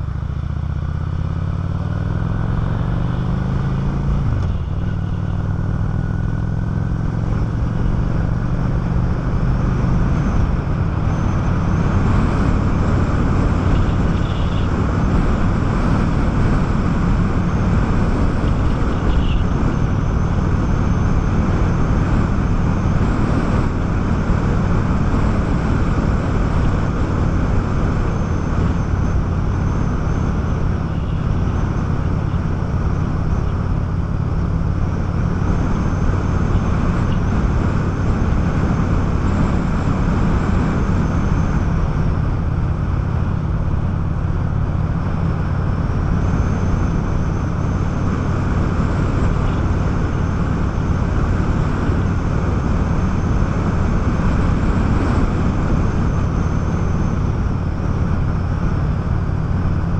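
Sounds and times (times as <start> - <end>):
motorcycle engine running: 0.0 - 59.9
wind noise on microphone: 8.2 - 59.9.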